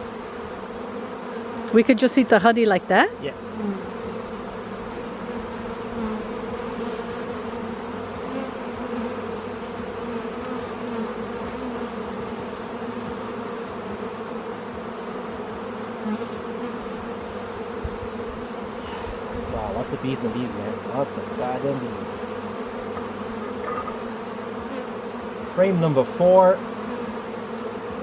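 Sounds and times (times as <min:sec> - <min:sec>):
honeybees humming: 0:00.0 - 0:28.0.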